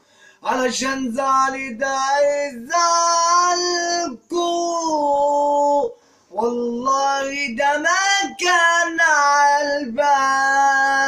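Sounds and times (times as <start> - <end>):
person singing solo: 0.5 - 11.0.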